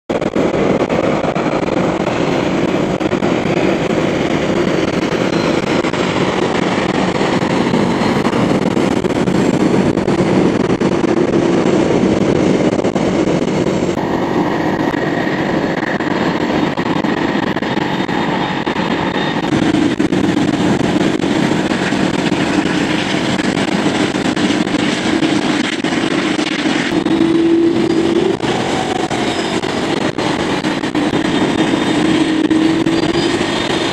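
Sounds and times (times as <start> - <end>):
jet engines roaring: 0.1 - 33.9.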